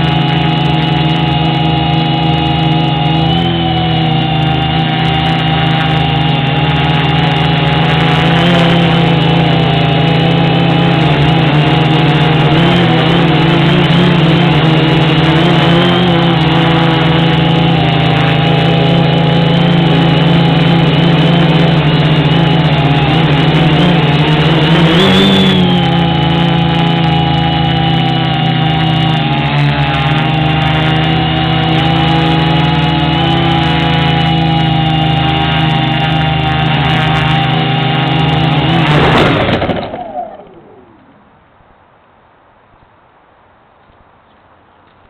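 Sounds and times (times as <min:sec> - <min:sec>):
drone motors and propellers whining: 0:00.0 - 0:42.2.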